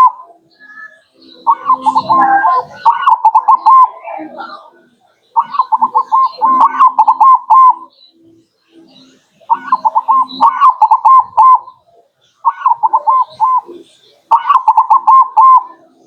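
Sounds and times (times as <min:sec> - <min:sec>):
dove staccato cooing: 0:00.0 - 0:00.5, 0:01.4 - 0:04.8, 0:05.4 - 0:07.9, 0:09.4 - 0:16.0.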